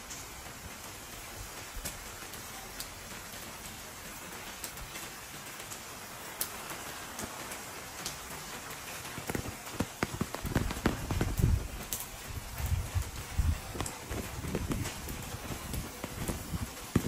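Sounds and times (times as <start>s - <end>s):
rain on stone paving and roofs: 0.0s - 17.0s
sharp drip ticks: 0.0s - 17.0s.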